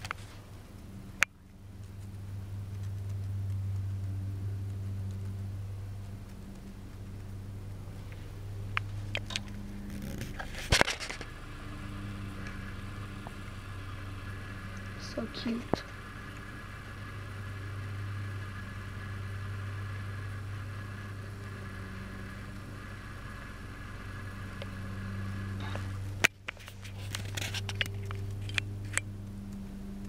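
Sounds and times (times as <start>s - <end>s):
faint clicks and rustles: 0.0s - 30.0s
steady low hum: 0.0s - 30.0s.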